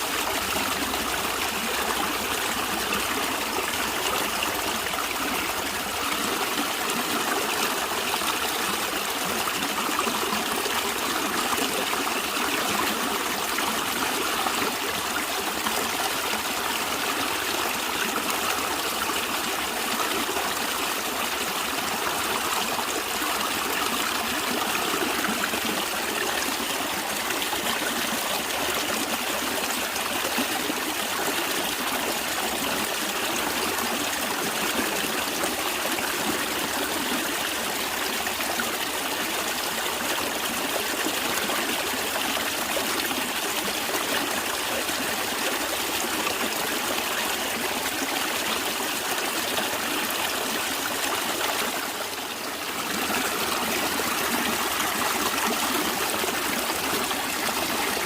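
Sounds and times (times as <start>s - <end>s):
stream of flowing water: 0.0s - 58.0s.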